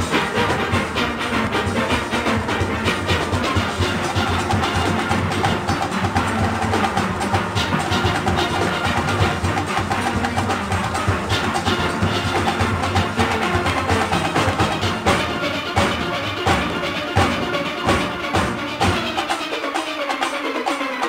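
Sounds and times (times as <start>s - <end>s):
steel band playing: 0.0s - 21.0s.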